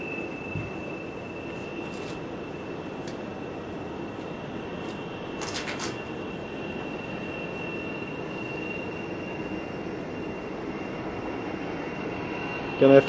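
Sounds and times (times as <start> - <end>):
distant jet engines rushing: 0.0 - 13.0
high jet engine whine: 0.0 - 13.0.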